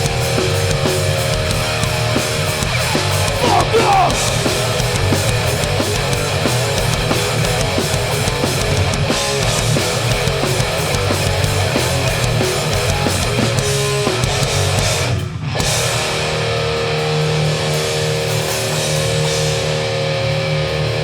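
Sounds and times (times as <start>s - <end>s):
punk band playing live: 0.0s - 21.0s.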